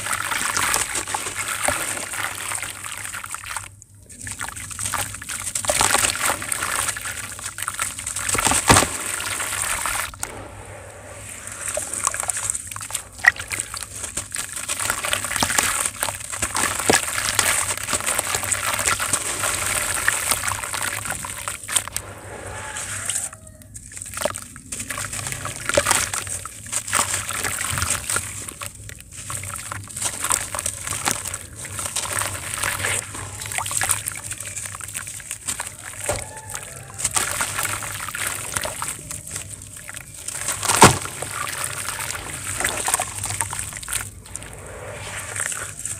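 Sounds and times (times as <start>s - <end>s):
gritty crackling of wet sand: 0.0s - 45.9s
water sloshing and trickling: 0.0s - 45.9s.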